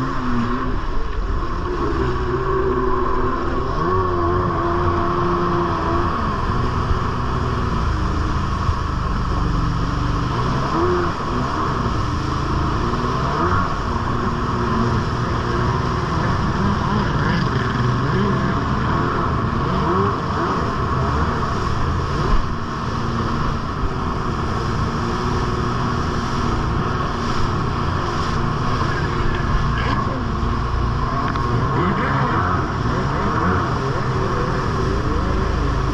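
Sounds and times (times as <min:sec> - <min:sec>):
jet ski engine: 0:00.0 - 0:35.9
water spray rushing: 0:00.0 - 0:35.9.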